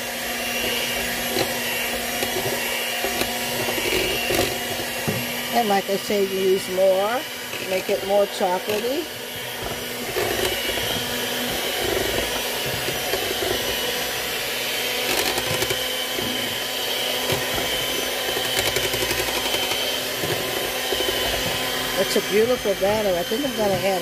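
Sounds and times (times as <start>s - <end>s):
electric hand mixer whining: 0.0s - 24.0s.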